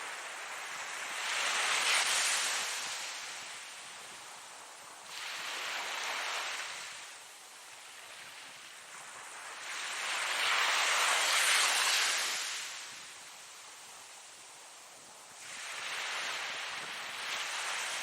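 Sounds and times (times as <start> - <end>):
waves breaking and washing in: 0.0 - 18.0.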